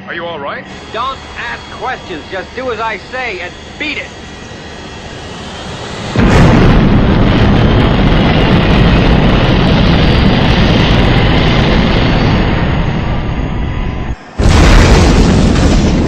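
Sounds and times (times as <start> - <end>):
rising rush: 0.6 - 16.0
explosion blast and rumbling roar: 0.7 - 16.0.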